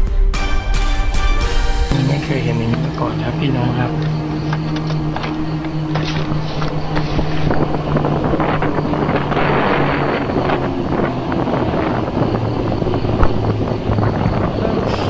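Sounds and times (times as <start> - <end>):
steady low hum: 1.7 - 15.0
wind on microphone: 1.9 - 15.0.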